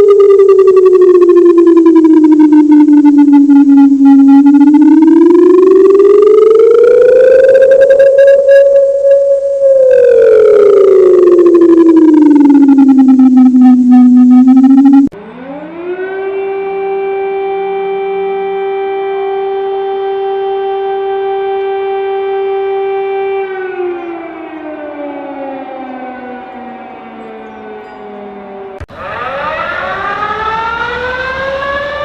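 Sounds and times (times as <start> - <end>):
air-raid siren: 0.0 - 32.0.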